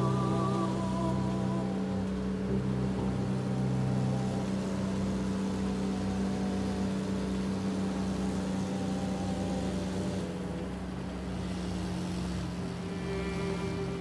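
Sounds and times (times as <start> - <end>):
car engine hum and road noise: 0.0 - 14.0.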